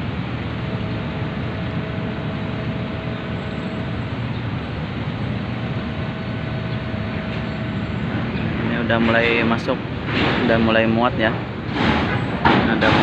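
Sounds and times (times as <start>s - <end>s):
faint steady hum: 0.0s - 13.0s
ferry machinery low rumble: 0.0s - 13.0s.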